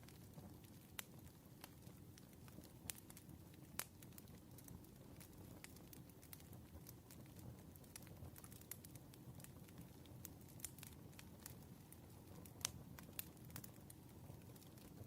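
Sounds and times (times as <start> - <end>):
burning wood crackling and popping: 0.0 - 15.0
campfire flame rumbling: 0.0 - 15.0.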